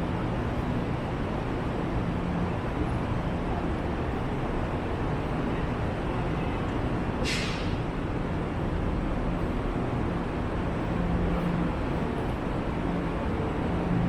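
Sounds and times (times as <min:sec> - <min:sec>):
railway platform rumble and hiss: 0:00.0 - 0:14.0.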